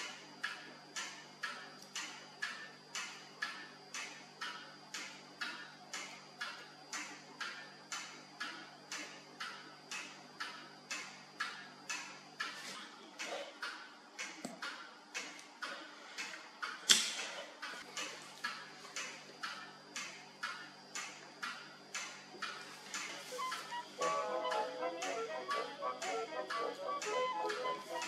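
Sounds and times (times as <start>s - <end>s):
mechanical clock ticking: 0.0s - 12.6s, 13.2s - 28.0s.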